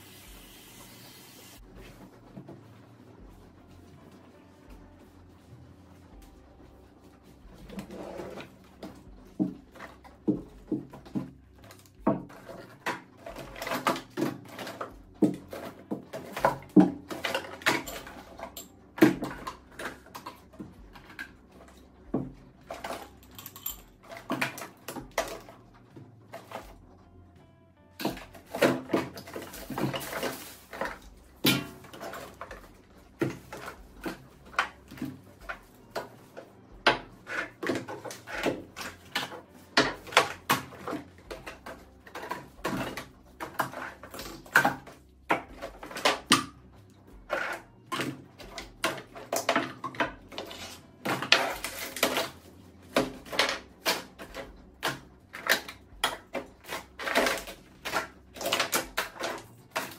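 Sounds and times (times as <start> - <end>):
plastic bottles clattering: 7.5 - 27.0, 28.0 - 59.9.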